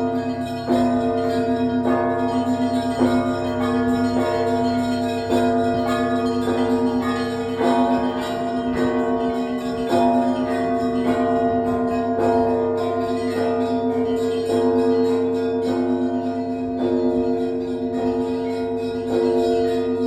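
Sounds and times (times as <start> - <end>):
church bells pealing: 0.0 - 20.0
deep bells ringing: 0.0 - 20.0.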